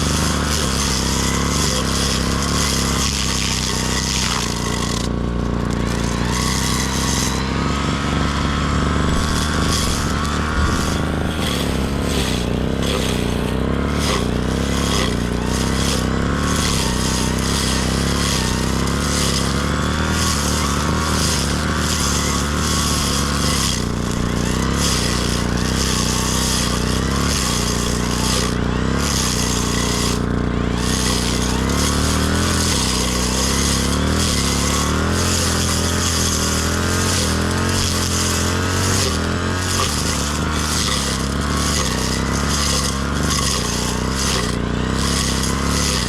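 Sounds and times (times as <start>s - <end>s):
brush cutter engine running: 0.0s - 46.0s.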